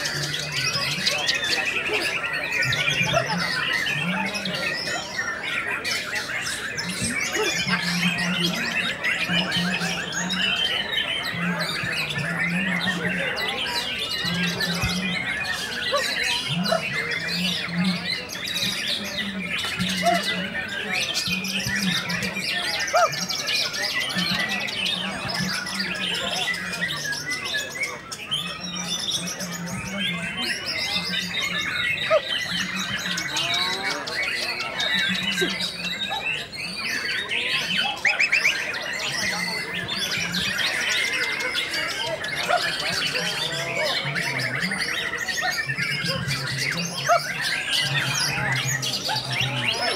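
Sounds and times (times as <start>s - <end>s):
songbirds chorus: 0.0s - 49.9s.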